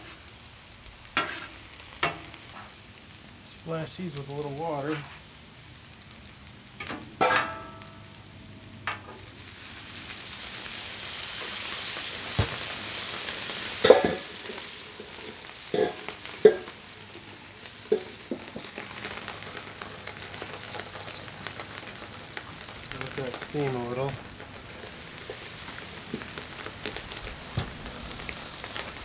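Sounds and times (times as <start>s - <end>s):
water sizzling on hot griddle: 0.0s - 29.0s.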